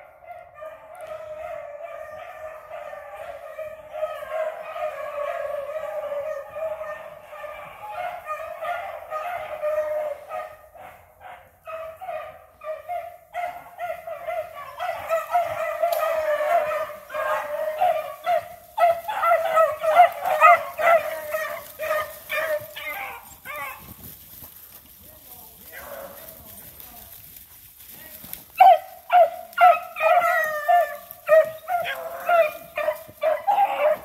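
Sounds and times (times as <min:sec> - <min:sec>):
pack of dogs baying: 0:00.0 - 0:27.7, 0:28.3 - 0:34.0.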